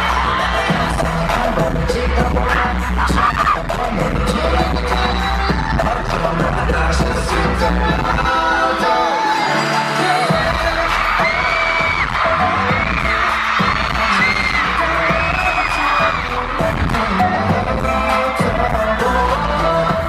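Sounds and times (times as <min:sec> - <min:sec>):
dance-pop music with singing: 0:00.0 - 0:20.0.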